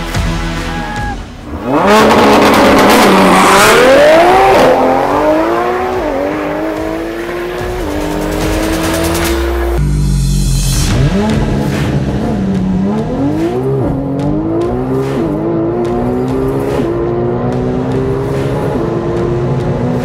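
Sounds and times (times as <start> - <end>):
drag car accelerating: 1.4 - 20.0.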